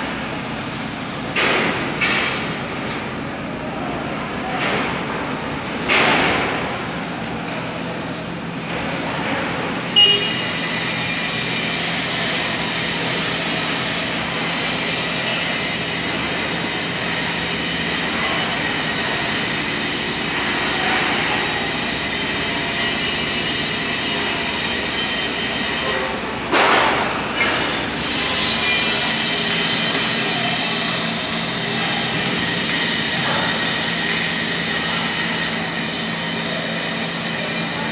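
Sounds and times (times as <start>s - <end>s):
diesel engine running under load: 0.0s - 37.9s
faint high hydraulic whine: 6.5s - 37.9s.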